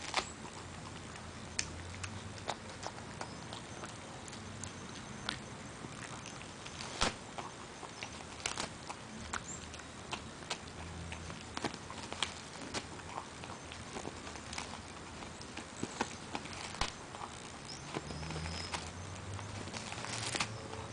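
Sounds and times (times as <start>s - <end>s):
dog gnawing hard chew: 0.0s - 20.9s.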